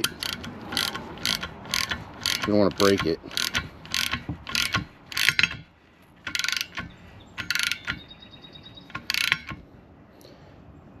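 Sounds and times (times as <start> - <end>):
ratcheting wrench clicking: 0.0 - 8.2, 8.9 - 9.6.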